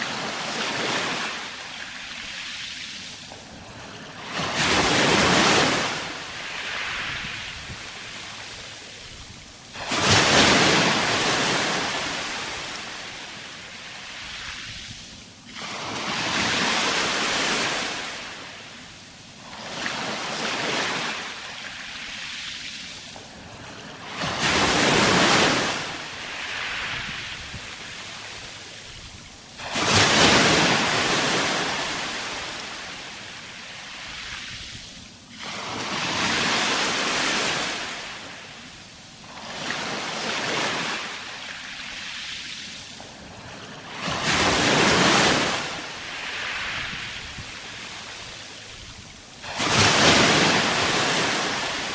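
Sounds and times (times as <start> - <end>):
sea waves breaking on shore: 0.0 - 51.9.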